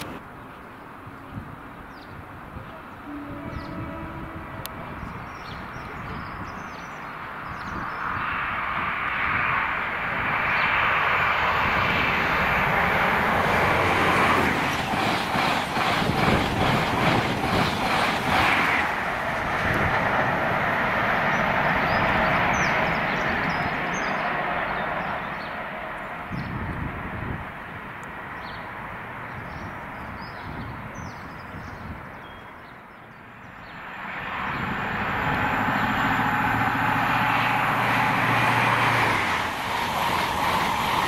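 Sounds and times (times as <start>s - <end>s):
train passing at speed: 0.0s - 32.1s, 32.8s - 41.0s.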